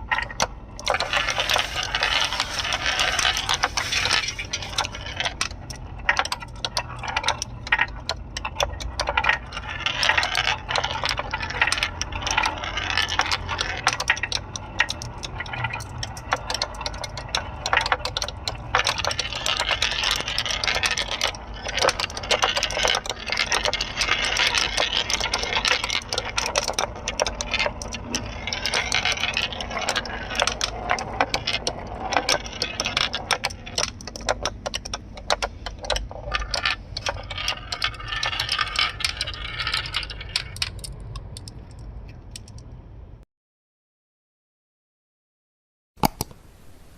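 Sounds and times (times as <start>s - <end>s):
marbles rolling and clattering: 0.0s - 42.8s.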